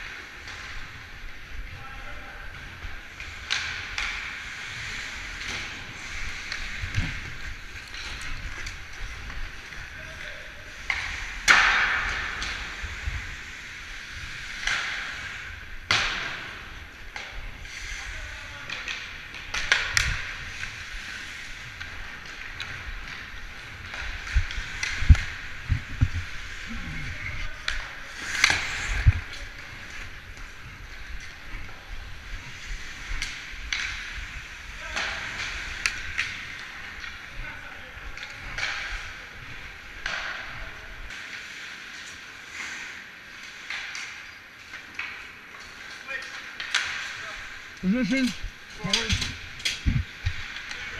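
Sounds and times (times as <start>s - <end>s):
skate blades scraping on ice: 2.4s - 50.9s.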